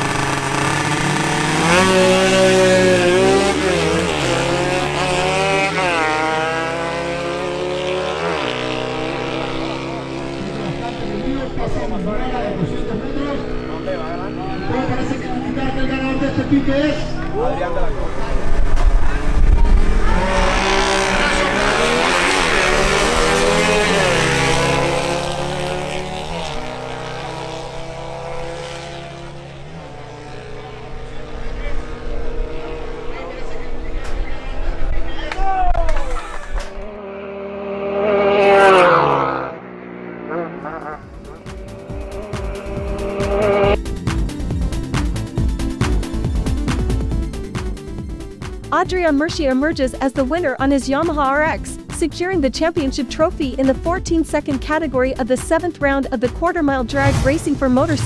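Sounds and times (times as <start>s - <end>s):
motorcycles accelerating hard: 0.0s - 58.0s.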